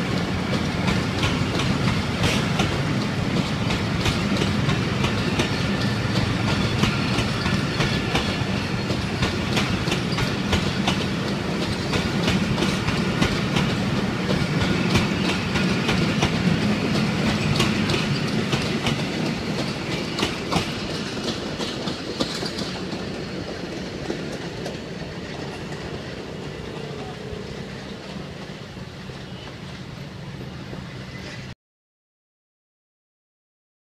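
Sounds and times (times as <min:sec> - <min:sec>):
train coaches rolling past: 0:00.0 - 0:31.6
wheels clicking over rail joints: 0:00.2 - 0:28.3.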